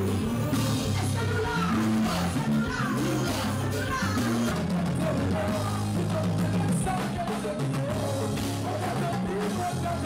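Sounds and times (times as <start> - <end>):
bass: 0.0 - 10.0
drum kit beat: 0.0 - 10.0
person singing: 0.0 - 10.0.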